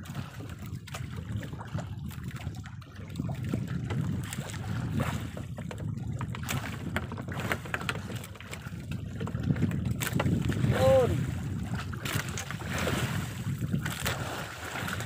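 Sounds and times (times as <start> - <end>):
water lapping against boat: 0.0 - 15.0
wind buffeting microphone: 0.0 - 15.0.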